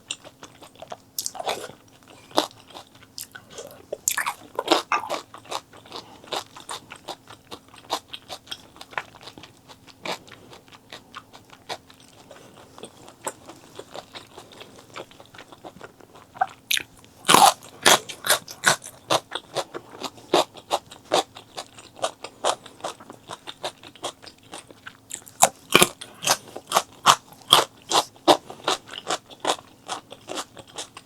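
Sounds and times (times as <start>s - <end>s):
person chewing and biting food: 0.0s - 31.0s.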